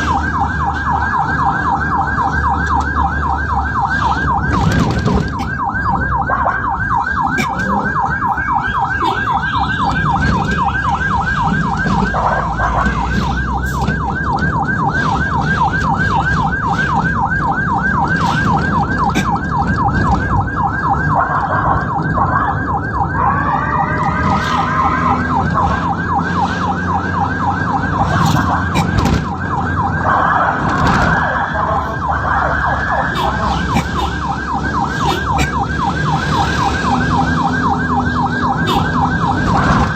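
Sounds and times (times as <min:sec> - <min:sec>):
ambulance siren yelping: 0:00.0 - 0:39.9
engine and road noise: 0:00.0 - 0:39.9.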